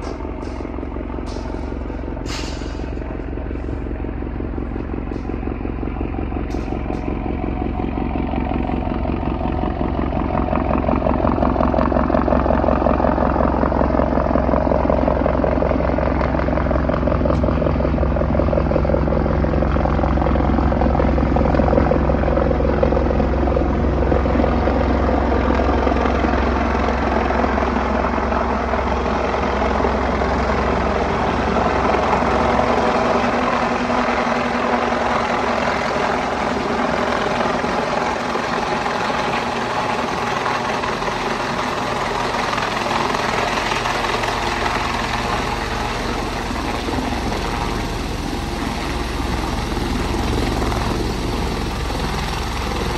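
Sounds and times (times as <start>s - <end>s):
helicopter rotor beating: 0.0s - 52.9s.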